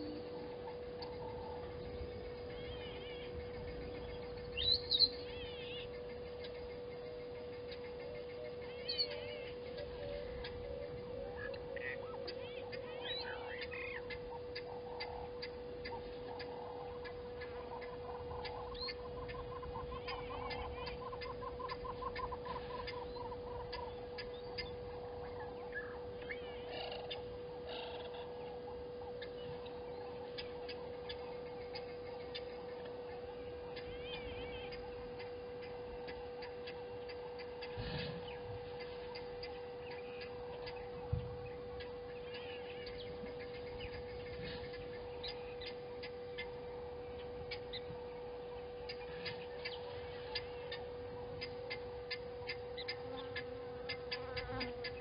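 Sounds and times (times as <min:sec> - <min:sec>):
birds chirping: 0:00.0 - 0:55.0
steady high hum: 0:00.0 - 0:55.0.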